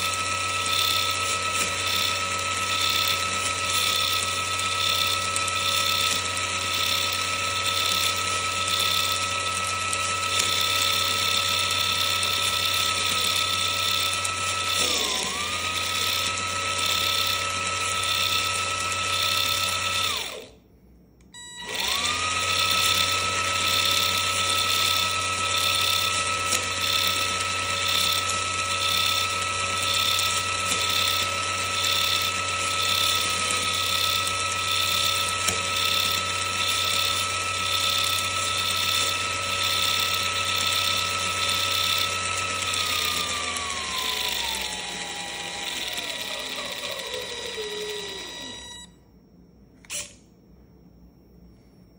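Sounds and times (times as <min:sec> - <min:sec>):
electric motor and gears whining: 0:00.0 - 0:20.6, 0:21.2 - 0:49.0, 0:49.8 - 0:50.3.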